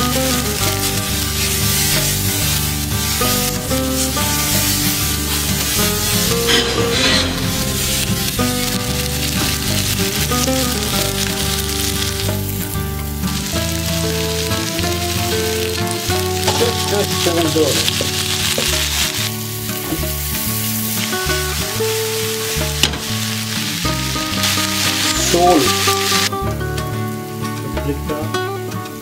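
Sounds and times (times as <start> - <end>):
spatula stirring in pan: 0.0 - 26.3
vegetables sizzling in oil: 0.0 - 29.0.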